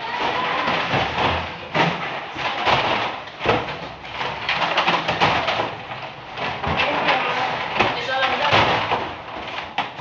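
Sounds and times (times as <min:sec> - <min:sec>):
plastic jugs knocking and scraping: 0:00.0 - 0:10.0.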